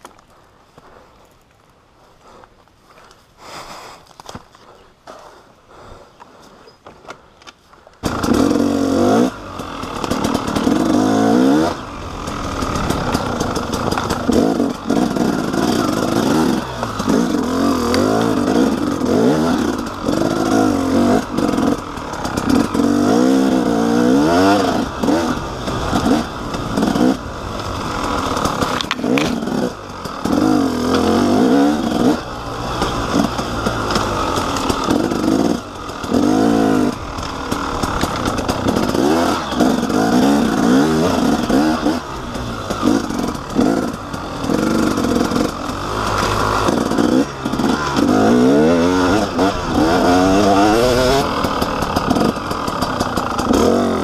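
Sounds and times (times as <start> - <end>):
motorcycle engine revving: 8.0 - 54.0.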